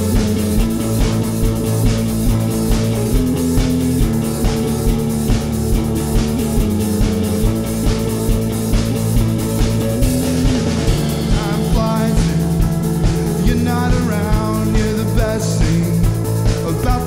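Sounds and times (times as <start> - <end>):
drum kit steady beat: 0.0 - 17.0
electric guitars: 0.0 - 17.0.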